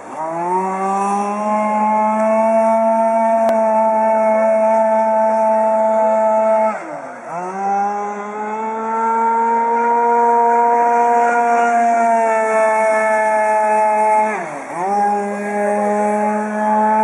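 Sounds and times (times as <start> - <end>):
model boat engine whining: 0.0 - 17.0.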